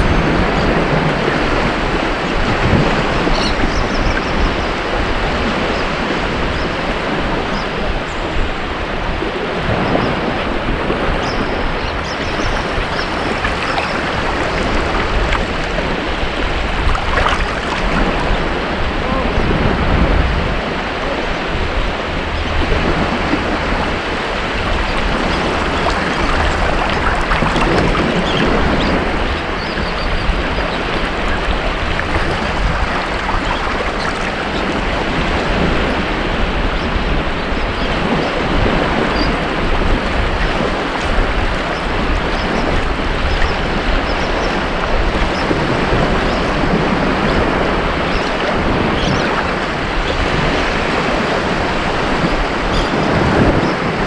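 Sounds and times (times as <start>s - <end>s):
waves breaking on beach: 8.5s - 21.9s, 22.6s - 37.4s, 38.0s - 54.0s.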